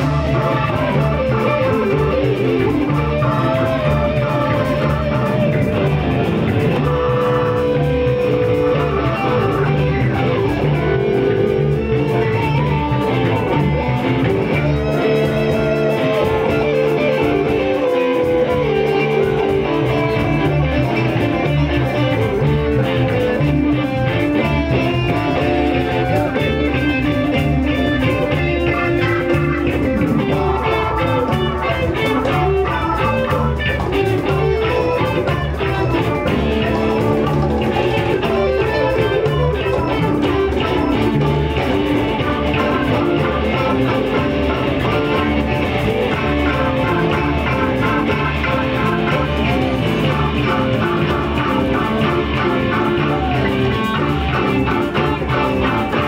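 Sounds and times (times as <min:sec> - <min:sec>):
bass guitar: 0:00.0 - 0:56.0
electric guitar: 0:00.0 - 0:56.0
steady drum beat: 0:00.0 - 0:56.0.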